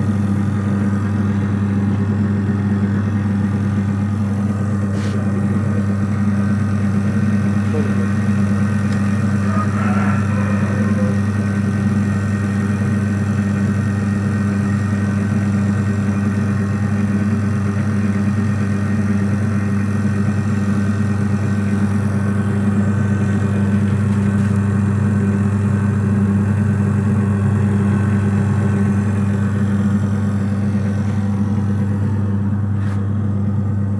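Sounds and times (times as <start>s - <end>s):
electric motor humming: 0.0s - 33.9s.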